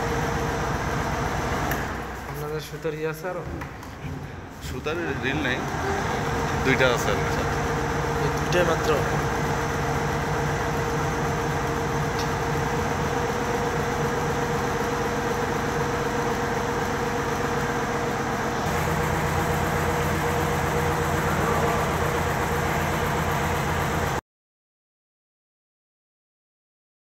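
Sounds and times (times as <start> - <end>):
machine hum: 0.0 - 24.2.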